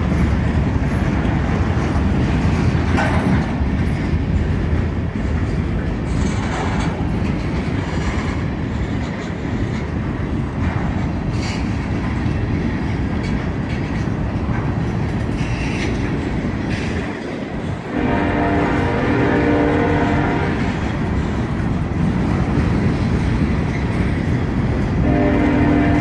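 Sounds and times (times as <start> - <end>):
freight train rumbling: 0.0 - 26.0
wheels clicking over rail joints: 0.0 - 26.0.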